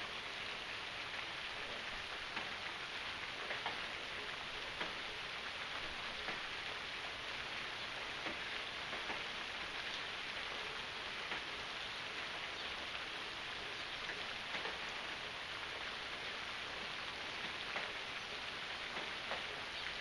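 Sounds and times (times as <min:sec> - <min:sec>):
raindrops ticking: 0:00.0 - 0:20.0
steady rain hiss: 0:00.0 - 0:20.0.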